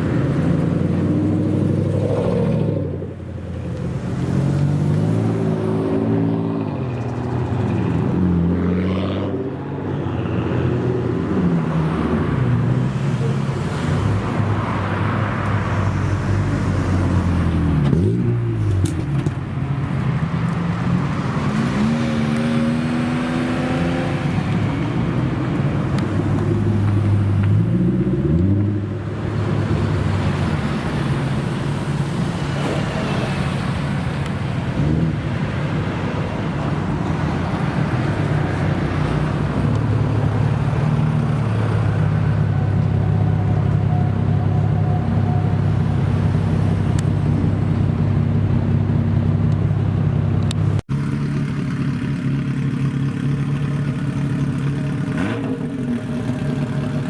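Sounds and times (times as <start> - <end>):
car engines revving and passing: 0.0 - 57.0.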